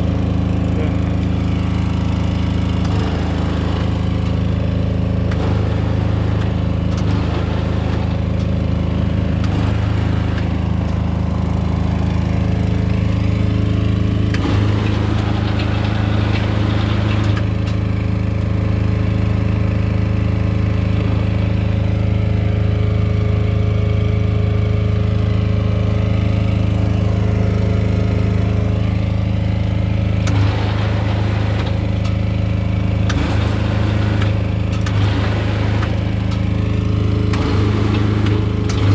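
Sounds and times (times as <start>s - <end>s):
bending machine motor humming: 0.0s - 38.9s.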